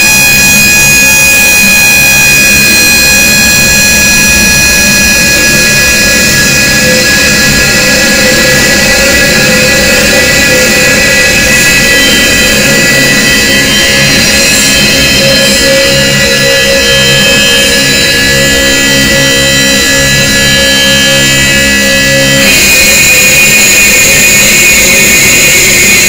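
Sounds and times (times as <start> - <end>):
harsh noise music: 0.0 - 26.0
high-pitched tones: 0.0 - 26.0.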